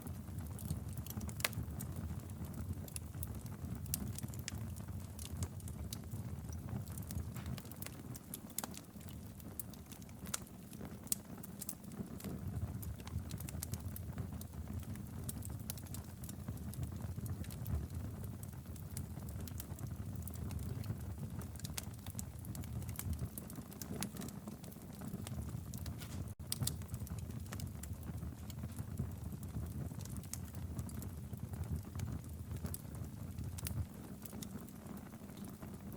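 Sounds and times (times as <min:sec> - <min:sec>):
low rumble of flames: 0:00.0 - 0:35.9
wood fire crackling and popping: 0:00.0 - 0:35.9.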